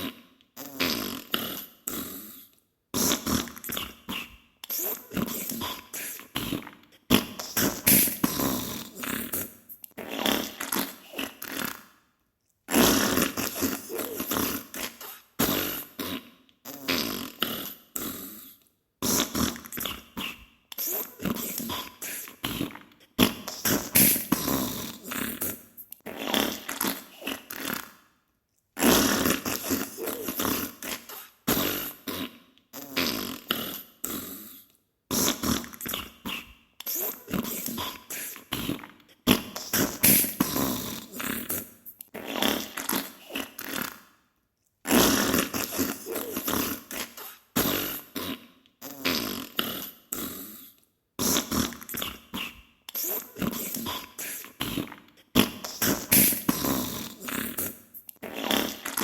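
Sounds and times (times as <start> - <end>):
sputtering fart sounds: 0.0 - 2.3, 3.0 - 11.9, 12.7 - 18.4, 19.0 - 28.0, 28.8 - 34.3, 35.1 - 44.1, 44.8 - 50.6, 51.2 - 59.0.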